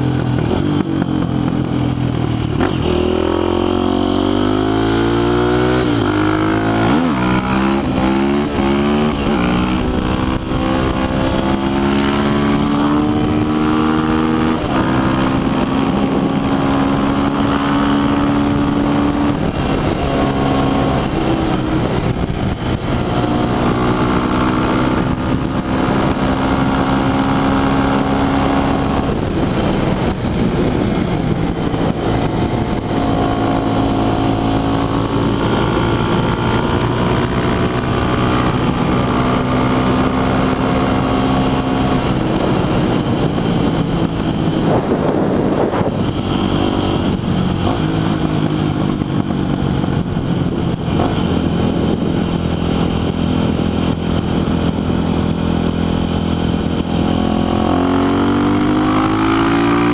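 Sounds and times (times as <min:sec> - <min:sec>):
dirt bike engine revving: 0:00.0 - 0:59.9
wind rush: 0:00.0 - 0:59.9.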